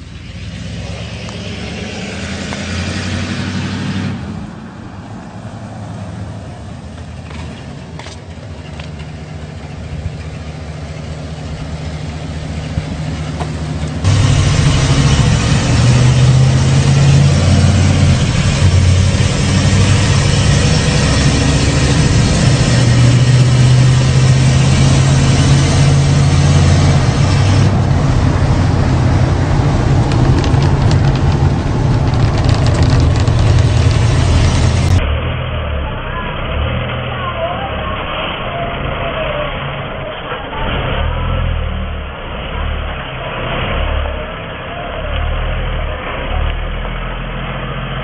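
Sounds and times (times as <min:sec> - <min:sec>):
pickup truck engine running: 0:06.0 - 0:48.0.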